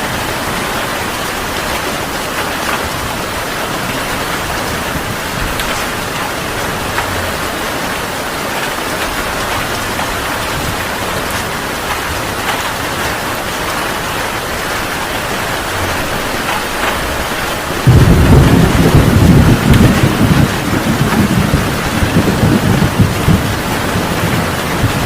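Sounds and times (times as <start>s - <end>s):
heavy rain: 0.0s - 25.0s
thunder rumble: 0.1s - 25.0s.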